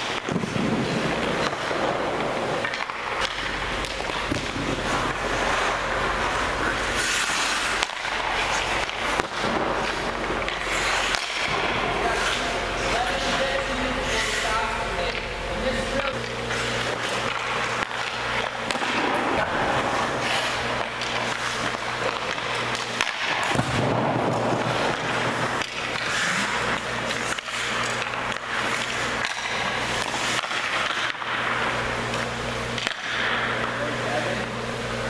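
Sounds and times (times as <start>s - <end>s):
ice skate blades scraping: 0.0s - 34.5s
steady low hum: 0.0s - 35.0s.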